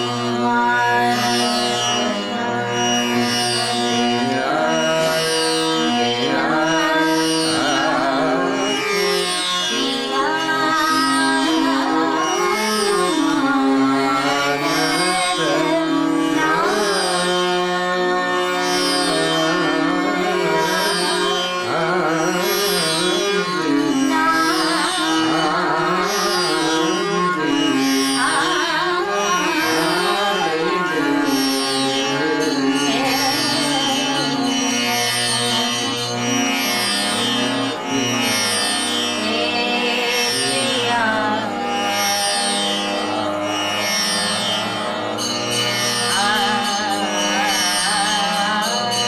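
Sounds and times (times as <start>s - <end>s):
plucked string drone: 0.0s - 49.0s.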